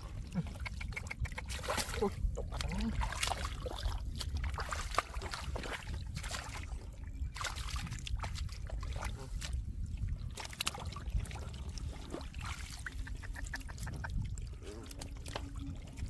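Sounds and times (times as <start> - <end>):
muddy water sloshing and splashing: 0.0 - 16.0.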